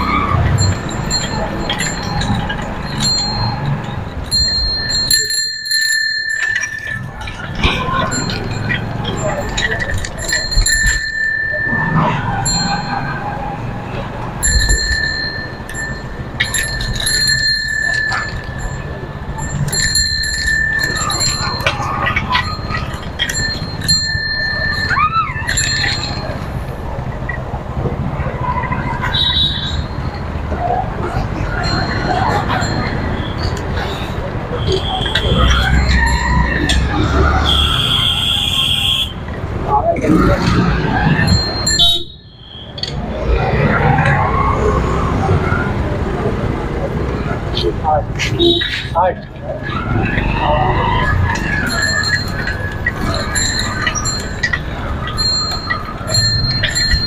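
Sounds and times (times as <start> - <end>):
bicycle bell ringing: 0.0 - 27.6, 28.5 - 39.4, 41.1 - 45.0, 49.6 - 57.0
road noise: 0.0 - 57.0
wind: 0.0 - 57.0.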